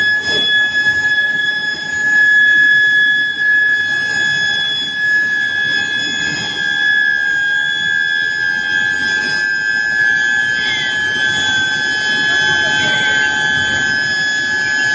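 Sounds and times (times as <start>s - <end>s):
induction heater high-pitched whine: 0.0s - 14.9s.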